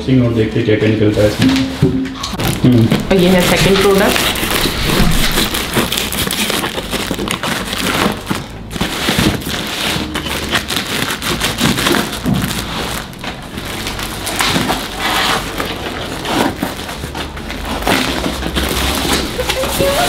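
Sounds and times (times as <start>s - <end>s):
cardboard box being opened: 2.3s - 20.0s.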